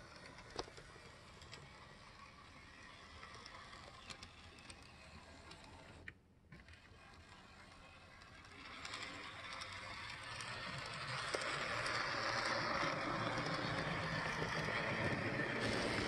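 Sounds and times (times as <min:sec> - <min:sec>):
model train motor whirring: 0:00.0 - 0:16.0.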